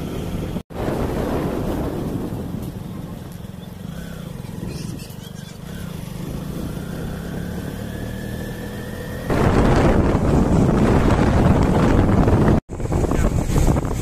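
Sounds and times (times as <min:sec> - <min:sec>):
wind noise on microphone: 0:00.0 - 0:07.2, 0:08.6 - 0:14.0
vehicle engine running: 0:01.8 - 0:14.0.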